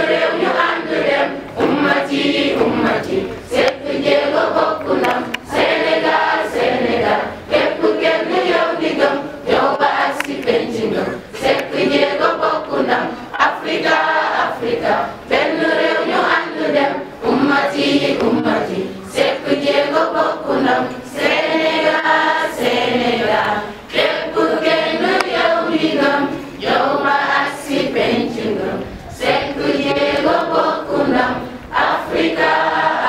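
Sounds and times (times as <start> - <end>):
crowd singing an anthem: 0.0 - 33.0.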